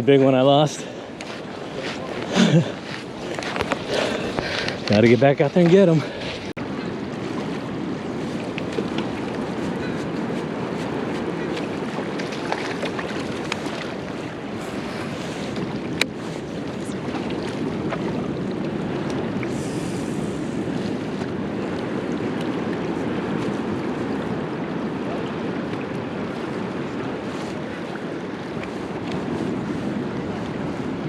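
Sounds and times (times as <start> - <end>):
rushing water: 0.0 - 31.0
wind on microphone: 0.8 - 31.0.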